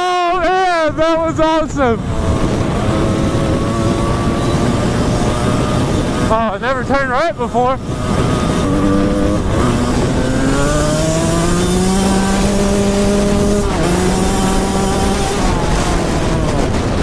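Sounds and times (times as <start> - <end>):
dirt bike engine revving: 0.0 - 17.0
rushing wind: 0.0 - 17.0.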